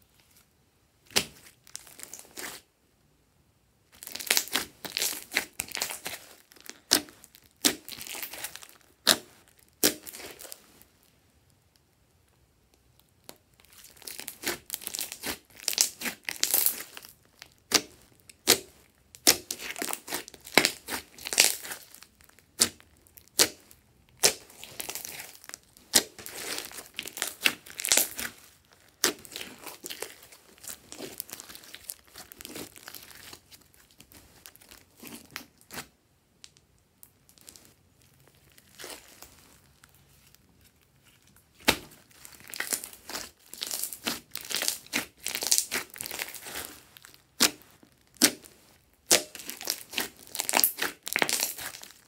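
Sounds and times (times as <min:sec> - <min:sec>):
slime crackling and popping: 0:01.1 - 0:02.6, 0:03.9 - 0:11.1, 0:12.8 - 0:52.0.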